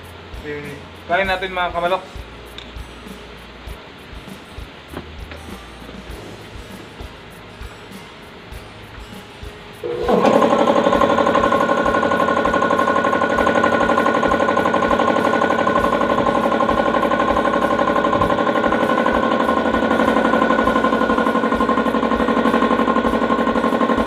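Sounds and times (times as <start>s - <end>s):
air compressor pulsing: 3.7s - 24.0s.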